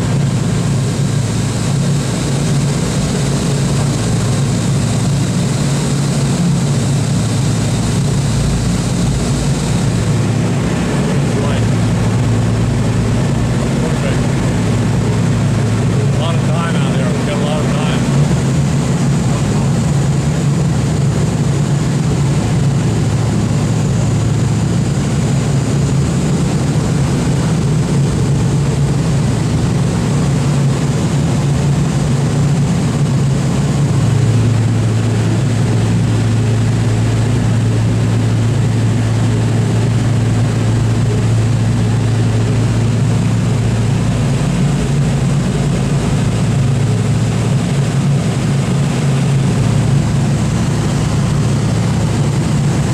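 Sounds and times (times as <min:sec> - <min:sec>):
propeller engines droning: 0:00.0 - 0:52.9.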